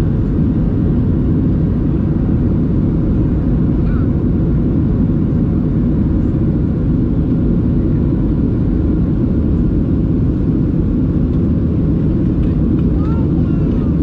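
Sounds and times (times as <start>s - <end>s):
jet engines droning in cabin: 0.0s - 14.0s.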